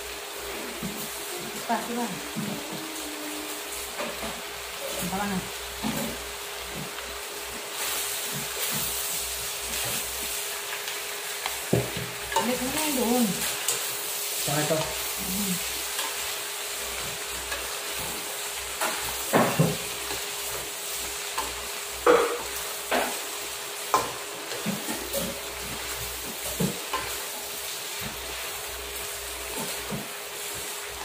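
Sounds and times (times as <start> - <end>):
meat sizzling in a wok: 0.0 - 31.0.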